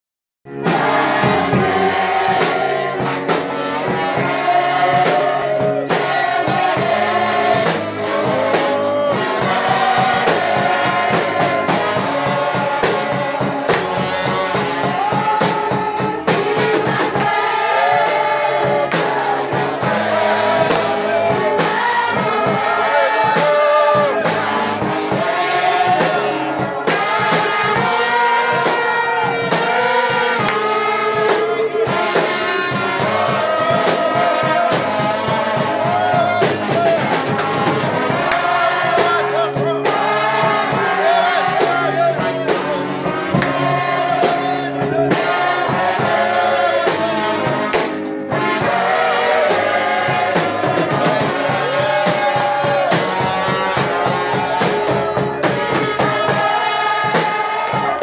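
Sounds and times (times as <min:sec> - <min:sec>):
group of voices singing: 0:00.5 - 0:58.0
instrumental backing with beat: 0:00.5 - 0:58.0.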